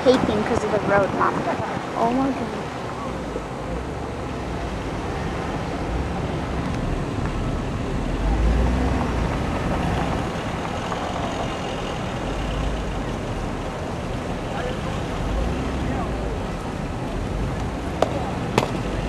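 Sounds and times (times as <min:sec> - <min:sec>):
tyres rumbling on road: 0:00.0 - 0:19.0.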